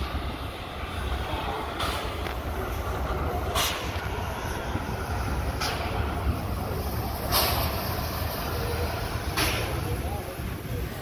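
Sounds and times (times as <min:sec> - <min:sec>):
steam locomotive exhaust hiss: 0:00.0 - 0:11.0.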